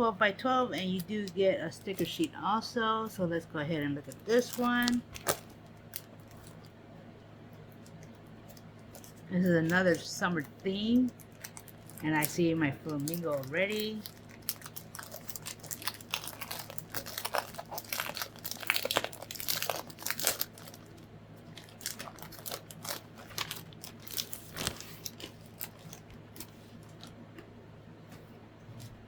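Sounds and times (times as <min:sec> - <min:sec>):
paper and plastic packaging crinkling: 0:00.7 - 0:06.8, 0:07.6 - 0:27.2.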